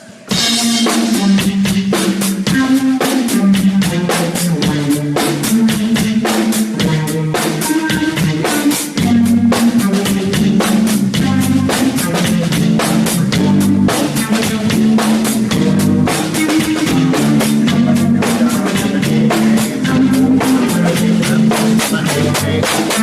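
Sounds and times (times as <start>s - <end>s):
bass guitar: 0.0s - 23.0s
drum kit beating: 0.0s - 23.0s
electric guitar: 0.0s - 23.0s.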